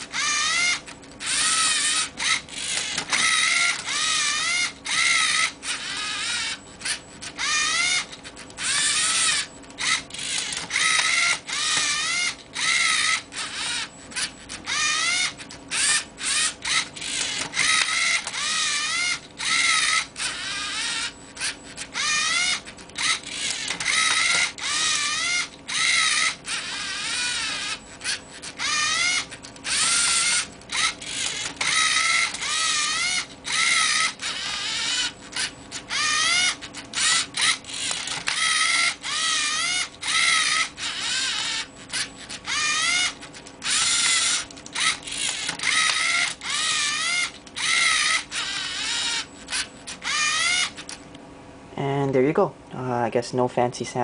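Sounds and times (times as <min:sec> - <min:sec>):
small motors whirring in bursts: 0:00.0 - 0:51.1.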